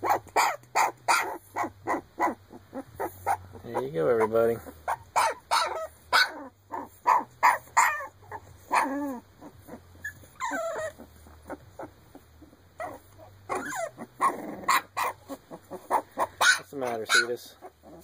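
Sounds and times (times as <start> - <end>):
puppies whimpering and yelping: 0.0 - 18.0.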